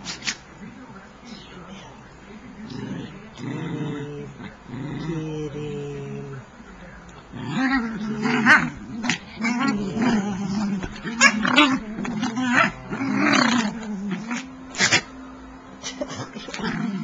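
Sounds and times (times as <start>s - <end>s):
dogs play-growling: 2.6s - 15.2s, 16.0s - 17.0s.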